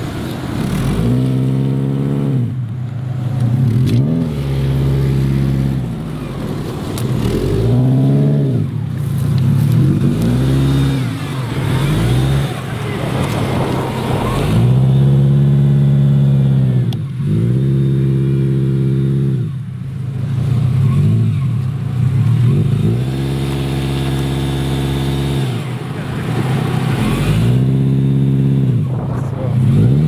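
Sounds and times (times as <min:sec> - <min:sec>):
car engine revving hard: 0:00.0 - 0:02.6, 0:03.5 - 0:08.8, 0:09.6 - 0:19.5, 0:22.0 - 0:30.0.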